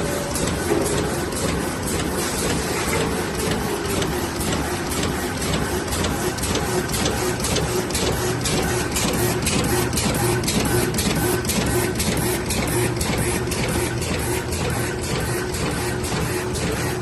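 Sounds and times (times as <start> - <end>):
machine whirring with clicks: 0.0 - 17.0.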